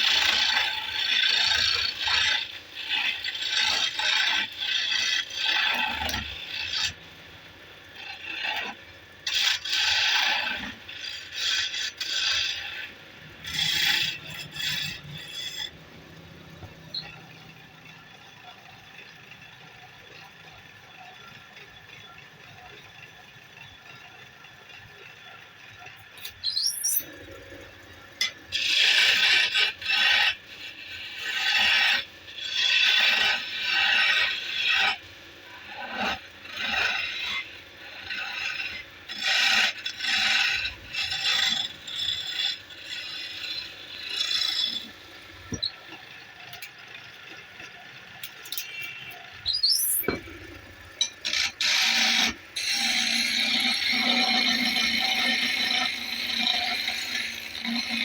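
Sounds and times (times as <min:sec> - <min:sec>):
tool scraping wood on a lathe: 0:00.0 - 0:22.9, 0:25.8 - 0:58.0.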